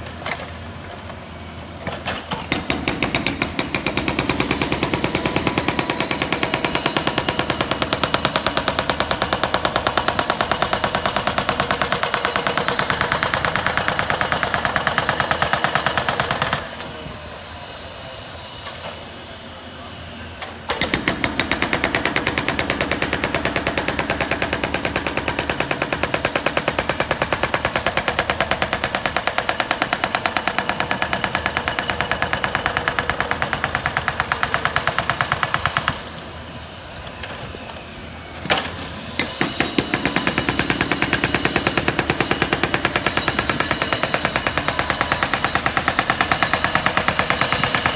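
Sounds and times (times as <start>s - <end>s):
hydraulic breaker hammering concrete: 1.9s - 16.8s, 20.7s - 36.1s, 39.2s - 47.9s.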